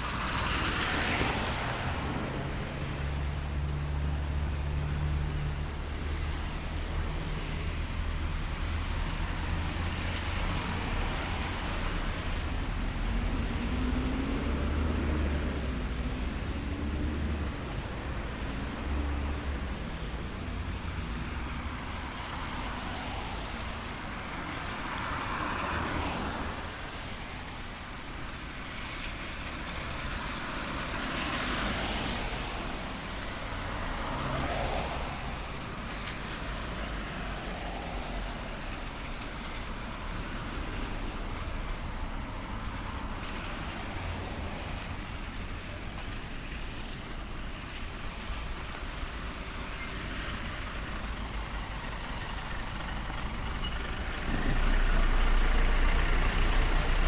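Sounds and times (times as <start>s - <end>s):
distant traffic: 0.0s - 57.0s
rain: 0.0s - 57.0s
vehicles passing on wet road: 0.0s - 57.0s.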